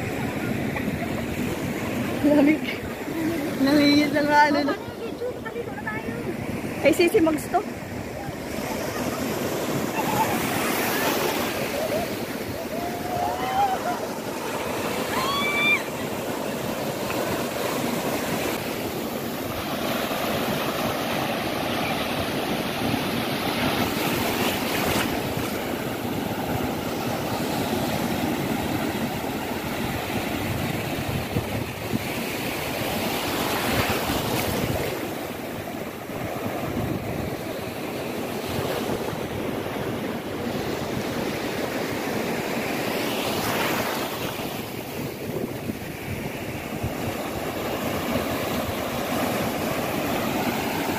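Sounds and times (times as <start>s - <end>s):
ocean waves breaking: 0.0s - 50.9s.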